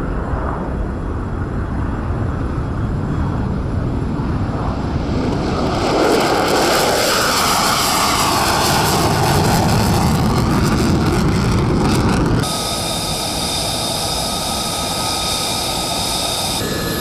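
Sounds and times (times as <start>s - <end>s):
fighter jet taking off: 2.0s - 17.0s.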